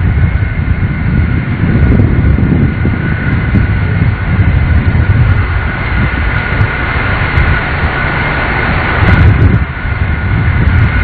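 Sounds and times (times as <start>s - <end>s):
jet engine high whine: 0.0s - 11.0s
jet engines low rumble: 0.0s - 11.0s.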